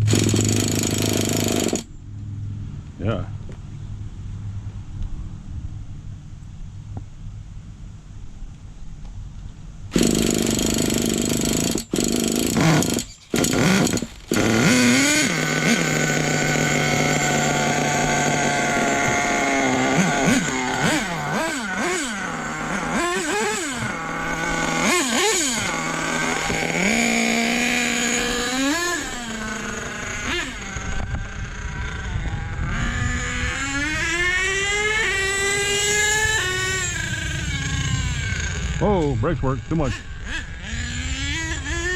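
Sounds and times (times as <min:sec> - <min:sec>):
rc truck engine revving: 0:00.0 - 0:01.9, 0:09.9 - 0:41.9.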